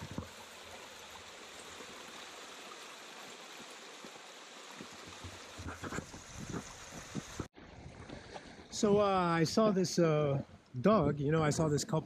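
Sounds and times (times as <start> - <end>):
stream splashing over rocks: 0.0 - 9.7.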